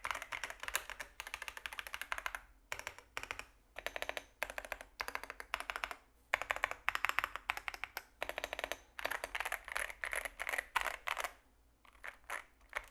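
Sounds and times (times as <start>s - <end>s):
mechanical keyboard typing: 0.0s - 12.9s.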